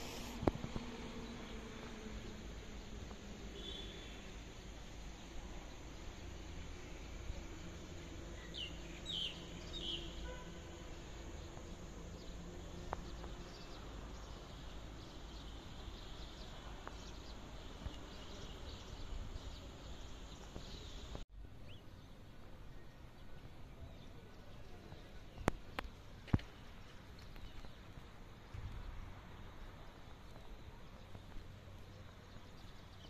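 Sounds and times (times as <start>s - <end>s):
faint insect hum: 0.0s - 33.0s.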